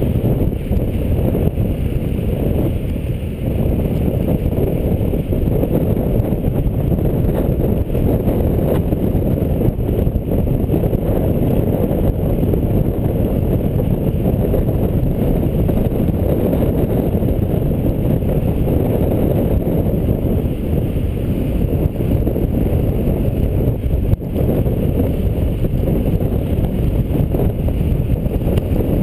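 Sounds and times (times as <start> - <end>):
wheels rolling over pavement: 0.0 - 29.0
wind buffeting microphone: 0.0 - 29.0.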